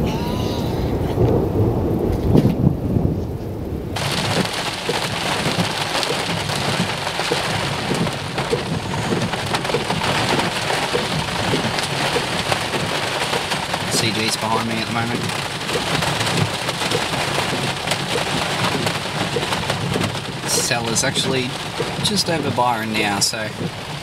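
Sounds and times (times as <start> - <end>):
heavy rain: 0.0 - 24.0
thunder rumbling: 0.0 - 24.0
raindrops tapping: 4.0 - 24.0.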